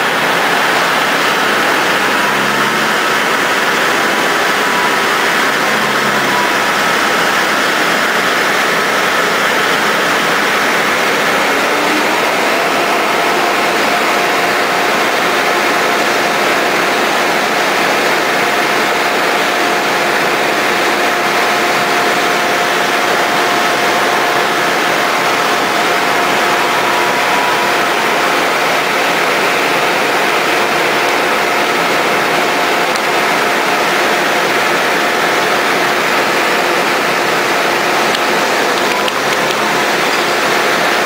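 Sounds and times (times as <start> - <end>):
truck engine running with whine: 0.0 - 41.0.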